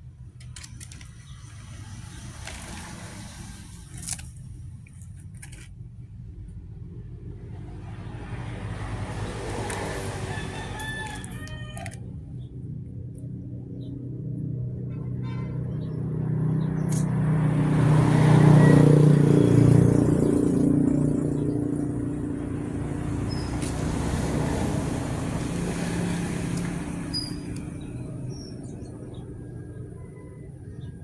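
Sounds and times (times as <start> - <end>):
motor vehicle passing by: 0.4 - 5.0, 6.6 - 31.0.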